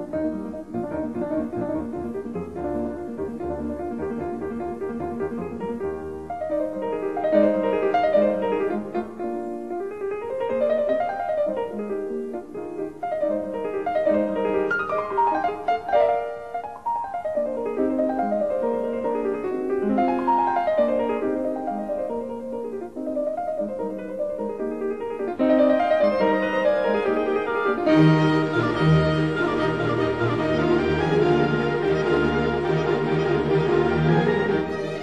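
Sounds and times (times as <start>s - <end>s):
piano music with flowing runs: 0.0s - 35.0s.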